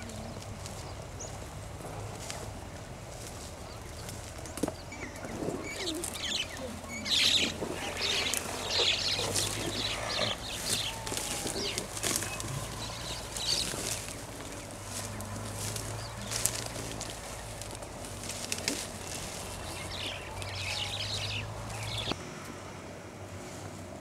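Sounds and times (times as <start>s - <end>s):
birds chirping and chattering: 0.0s - 22.2s.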